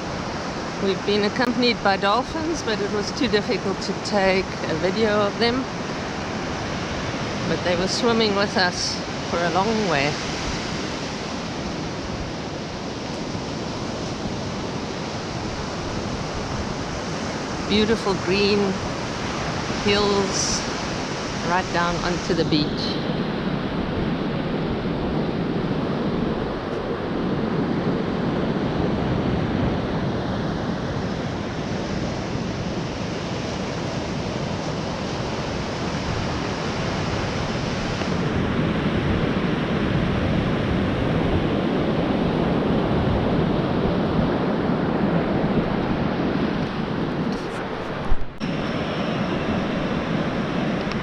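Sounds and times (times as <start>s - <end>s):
ocean surf breaking: 0.0s - 51.0s
wind on microphone: 0.0s - 51.0s.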